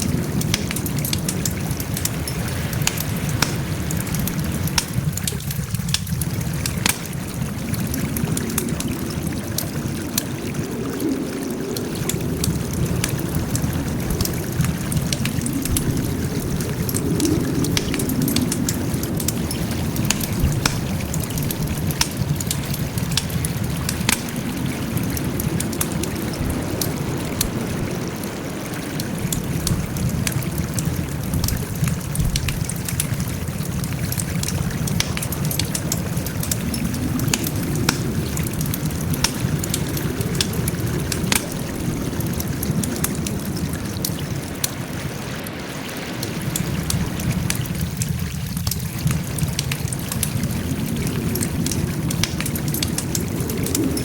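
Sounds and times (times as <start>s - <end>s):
campfire crackling: 0.0s - 54.0s
low rumble of flames: 0.0s - 54.0s.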